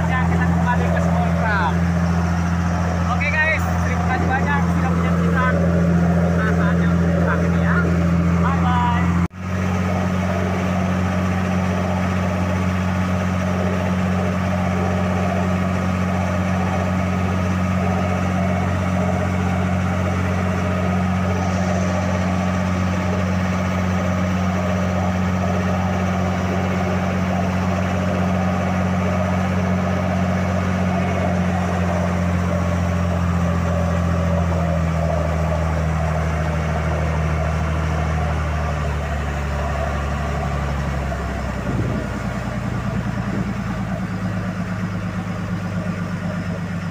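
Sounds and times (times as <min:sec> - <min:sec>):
boat engine droning: 0:00.0 - 0:46.9
water rushing along hull: 0:00.0 - 0:46.9.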